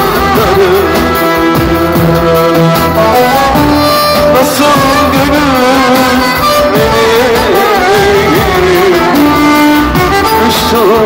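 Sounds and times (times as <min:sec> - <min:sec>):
electronic keyboard: 0:00.0 - 0:11.0
steady drum beat: 0:00.0 - 0:11.0
violin melody: 0:00.0 - 0:11.0.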